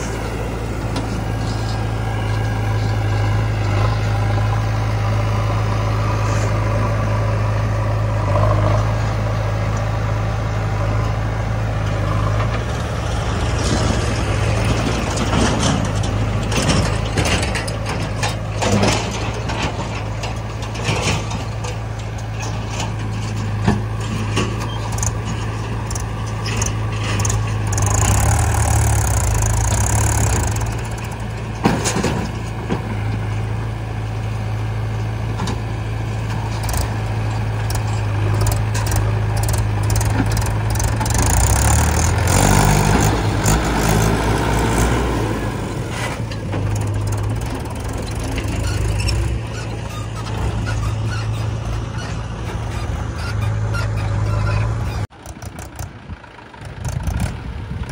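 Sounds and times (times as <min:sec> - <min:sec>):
knocks and rattles of loading mud: 0:00.0 - 0:57.4
diesel engines humming: 0:00.0 - 0:57.9.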